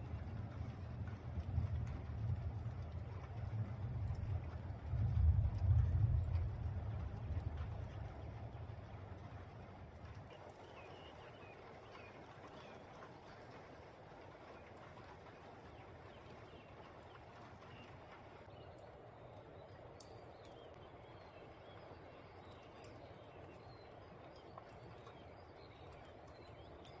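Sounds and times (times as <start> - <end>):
outdoor night ambience: 0.0 - 27.0.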